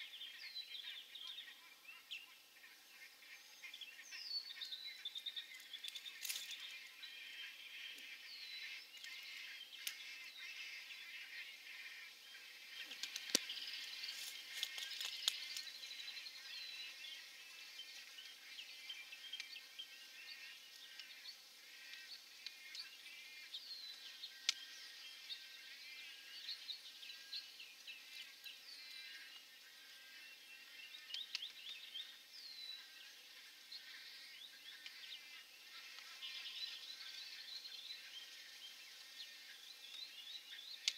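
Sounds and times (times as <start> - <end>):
faint chorus of bird chirps: 0.0 - 40.9.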